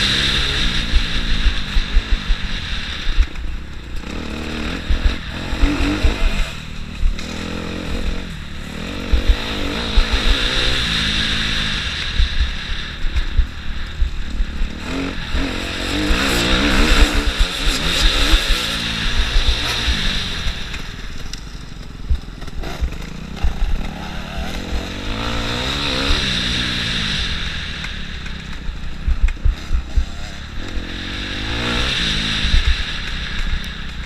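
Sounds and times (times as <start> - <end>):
motocross bike engine revving: 0.0 - 34.0.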